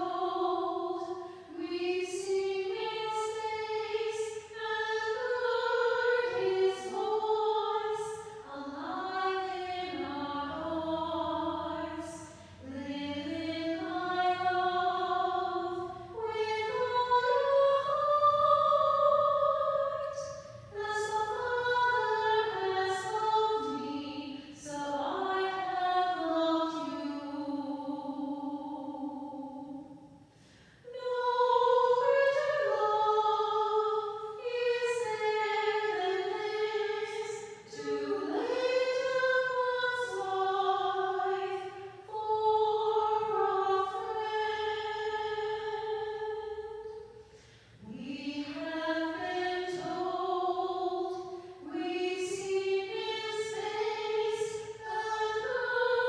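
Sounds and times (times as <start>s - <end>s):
choir singing sacred music: 0.0s - 56.0s.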